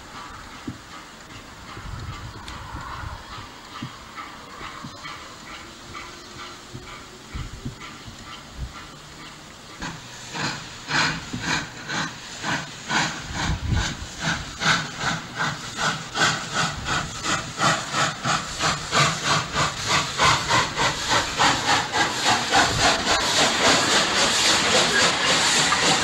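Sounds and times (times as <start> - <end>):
steam hissing: 0.0 - 26.0
steam locomotive chuffing: 0.0 - 26.0.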